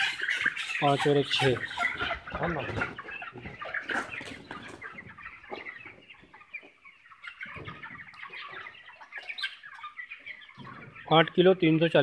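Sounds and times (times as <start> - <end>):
chickens clucking and cheeping: 0.0 - 12.0.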